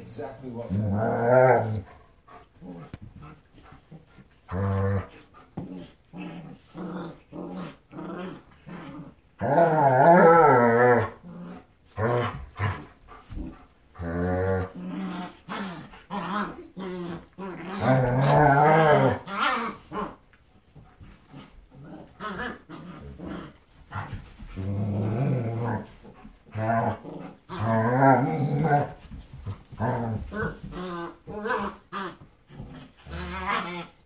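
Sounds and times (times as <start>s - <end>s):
dogs growling in play: 0.5s - 34.0s.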